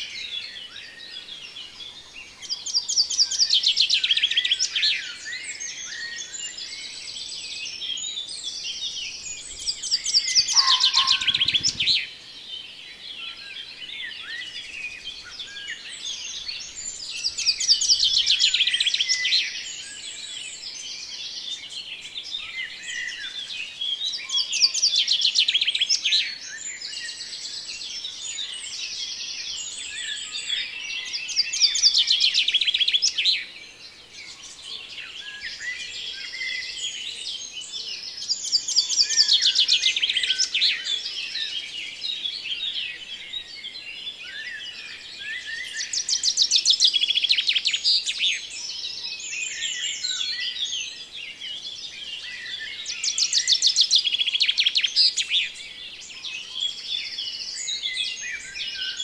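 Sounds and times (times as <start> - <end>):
rapid trilled birdsong: 0.0 - 59.0
songbirds singing and chirping: 0.0 - 59.0.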